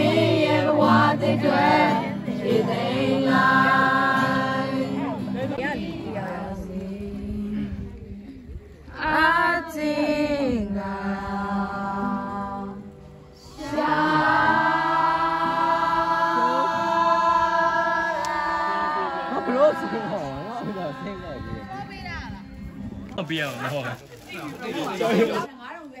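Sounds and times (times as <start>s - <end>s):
group singing held notes: 0.0s - 23.0s.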